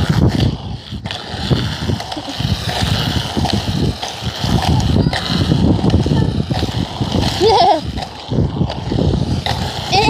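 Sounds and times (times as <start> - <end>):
wheels rolling on asphalt: 0.0 - 10.0
wind buffeting microphone: 0.0 - 10.0.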